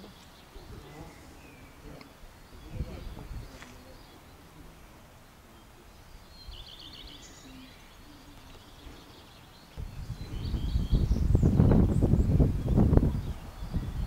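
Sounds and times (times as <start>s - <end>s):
faint background noise: 0.0s - 14.0s
small songbird chirping: 0.0s - 14.0s.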